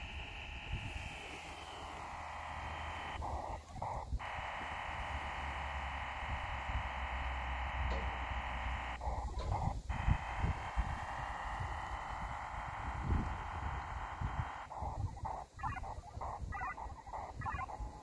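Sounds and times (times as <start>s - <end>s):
hiss of modem data noise: 0.0s - 18.0s
low wind rumble: 0.0s - 18.0s.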